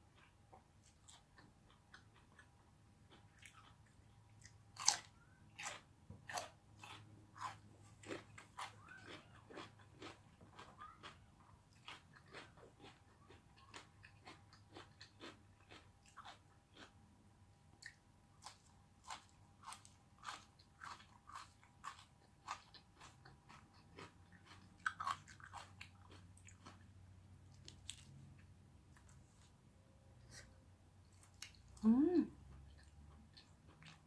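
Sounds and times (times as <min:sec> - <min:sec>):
person chewing food: 0:00.0 - 0:17.0, 0:17.6 - 0:29.6, 0:30.2 - 0:34.0.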